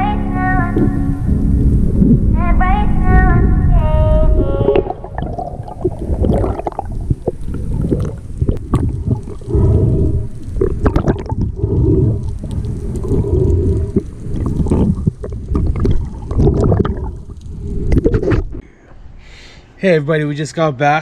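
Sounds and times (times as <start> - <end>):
muffled underwater rushing water: 0.6 - 2.4, 3.0 - 18.6.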